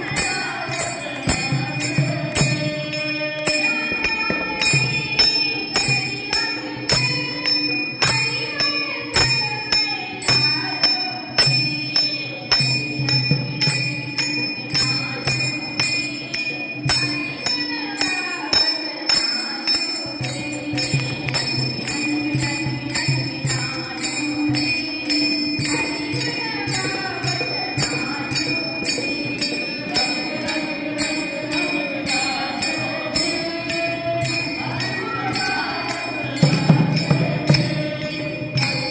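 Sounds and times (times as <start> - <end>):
jingling percussion beat: 0.0 - 38.9
person singing devotional song: 0.0 - 38.9.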